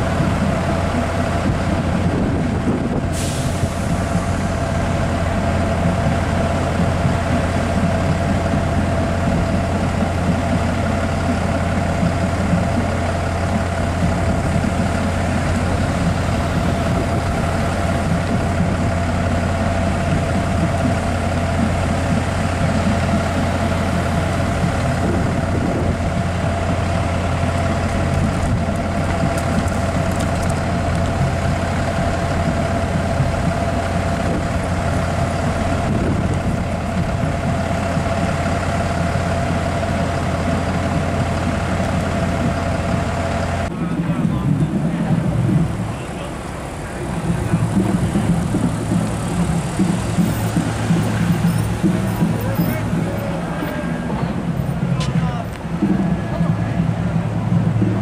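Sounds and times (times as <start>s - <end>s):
large truck engine idling: 0.0s - 58.0s
steady whine: 0.0s - 58.0s.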